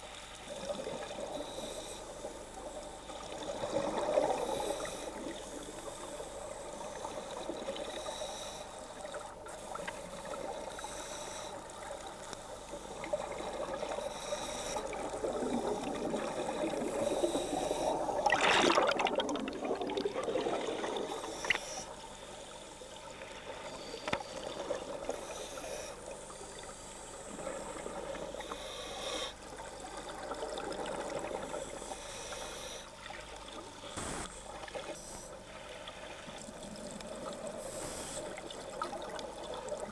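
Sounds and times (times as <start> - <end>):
underwater bubbling of exhaled air: 0.4 - 22.1, 22.9 - 32.2, 36.3 - 39.9.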